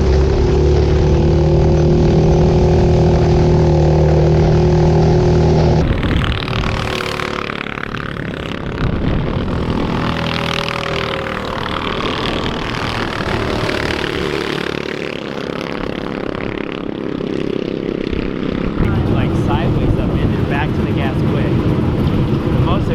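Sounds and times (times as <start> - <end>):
racing engines revving: 0.0 - 22.9.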